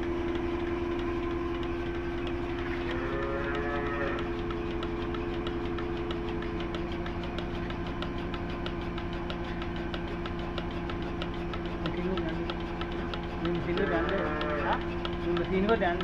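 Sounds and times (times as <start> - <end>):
farm machine motor humming: 0.0 - 16.0
quick even ticking: 1.5 - 16.0.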